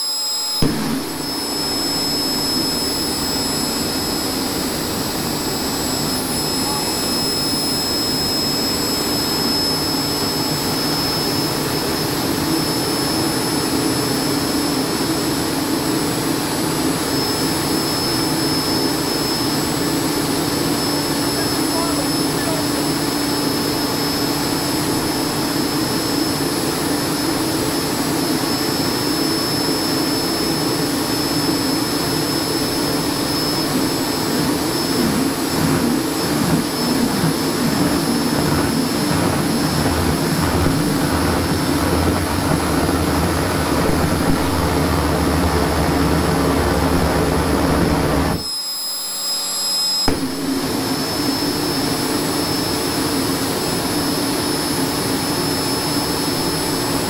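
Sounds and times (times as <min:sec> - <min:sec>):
high whine: 0:00.0 - 0:57.0
jet engine roar: 0:00.0 - 0:57.0.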